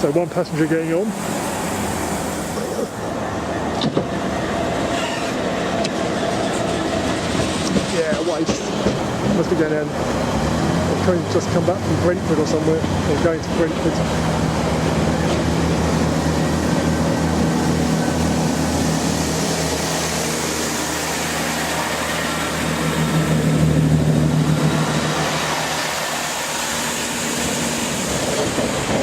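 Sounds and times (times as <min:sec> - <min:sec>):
train diesel engine humming: 0:00.0 - 0:29.0.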